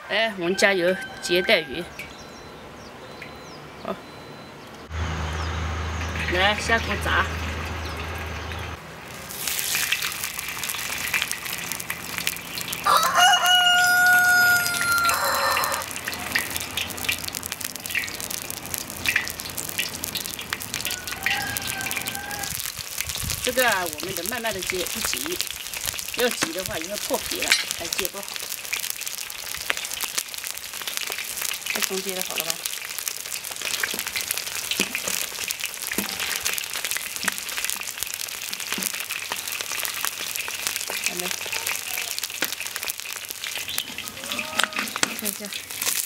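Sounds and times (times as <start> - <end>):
fish sizzling in hot oil: 5.5 - 46.0.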